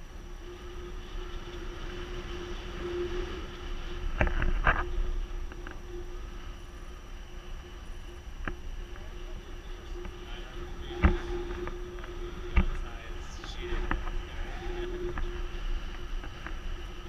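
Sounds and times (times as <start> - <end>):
faint steady tone: 0.0 - 17.0
wind buffeting microphone: 0.0 - 17.0.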